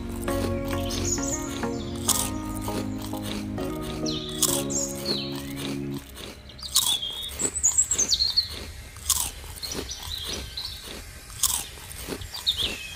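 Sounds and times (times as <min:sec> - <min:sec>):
pet crunching dry food: 0:02.0 - 0:12.9.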